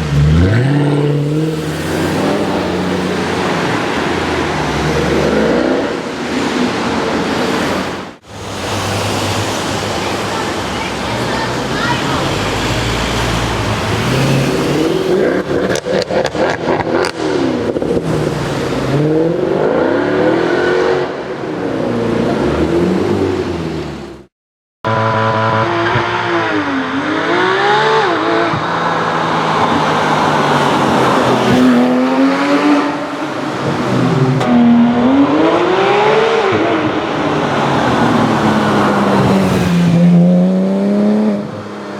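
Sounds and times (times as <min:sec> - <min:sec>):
car engine accelerating and revving: 0:00.0 - 0:10.1, 0:11.9 - 0:24.3, 0:24.9 - 0:41.9.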